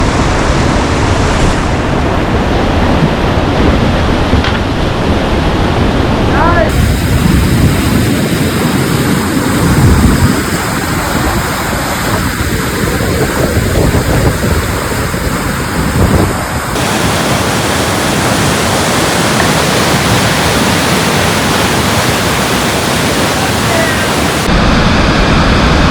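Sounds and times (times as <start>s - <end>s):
whitewater rapids rushing: 0.0s - 25.9s.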